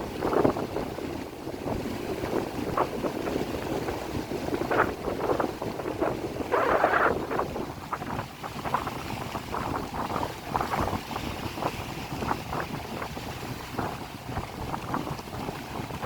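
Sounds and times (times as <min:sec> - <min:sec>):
gusty wind on microphone: 0:00.0 - 0:16.0.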